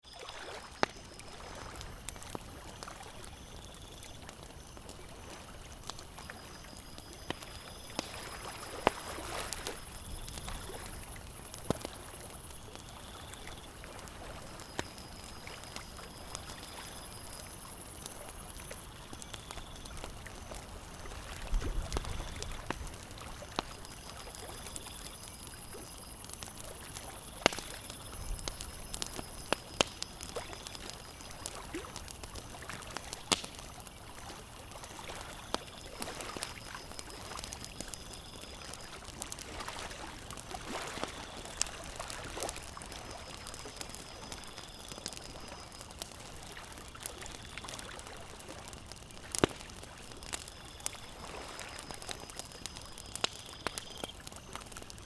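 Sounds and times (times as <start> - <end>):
water lapping and trickling: 0.1 - 55.0
campfire crackling and popping: 0.2 - 55.0.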